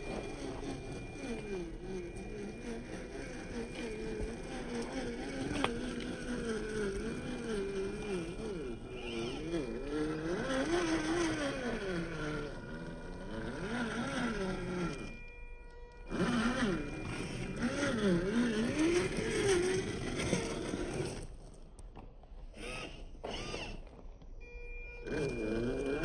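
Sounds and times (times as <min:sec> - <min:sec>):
electric motor whining: 0:00.0 - 0:21.6, 0:22.4 - 0:26.0.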